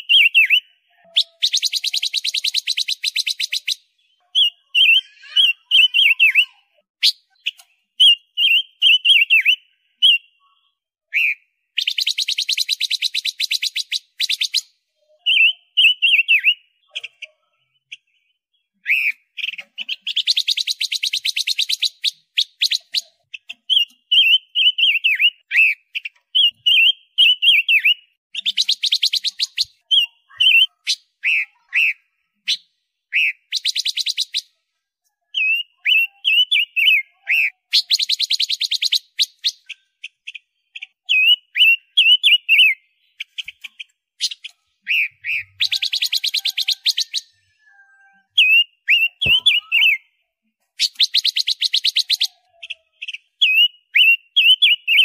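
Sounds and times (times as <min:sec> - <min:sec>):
bird warbling and trilling: 0:00.0 - 0:55.0.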